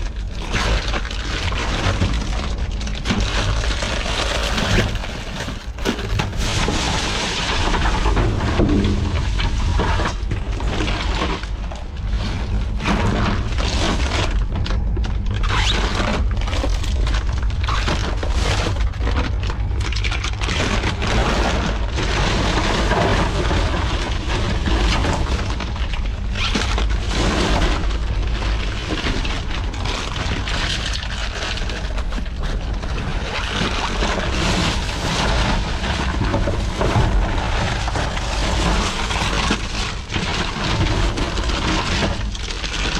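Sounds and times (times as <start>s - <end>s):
crinkling of trash bags: 0.0s - 42.9s
heavy low rumble: 0.0s - 42.9s.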